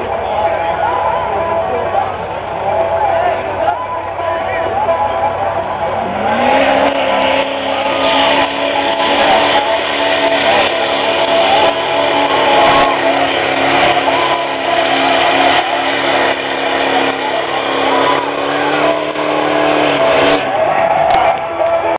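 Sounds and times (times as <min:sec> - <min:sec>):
truck engine running at high revs: 0:00.0 - 0:21.9.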